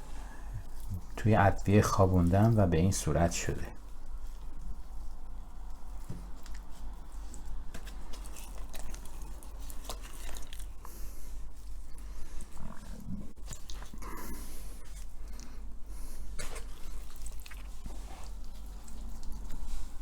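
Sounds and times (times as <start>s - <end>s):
low steady hum: 0.0s - 20.0s
wet squelching of raw chicken: 0.0s - 20.0s.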